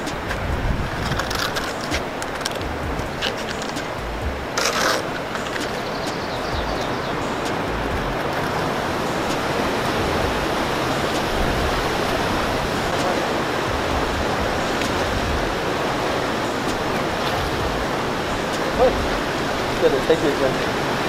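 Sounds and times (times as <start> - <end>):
water churning below weir: 0.0 - 21.0.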